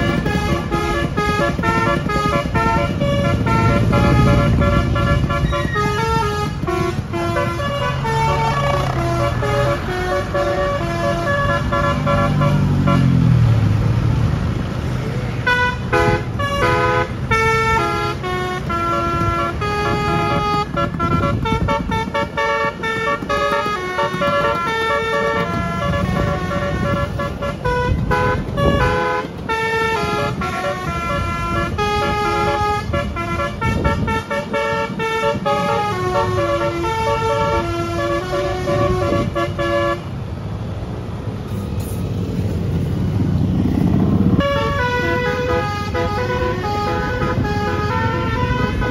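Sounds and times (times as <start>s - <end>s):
bus horn playing a tune: 0.0s - 13.3s, 15.4s - 40.2s, 44.1s - 48.9s
engines running: 0.0s - 48.9s.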